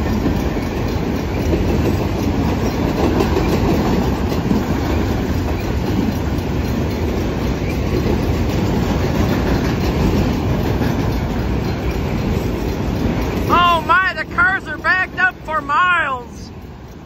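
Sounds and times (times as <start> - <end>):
steel train wheels on rails: 0.0 - 17.0.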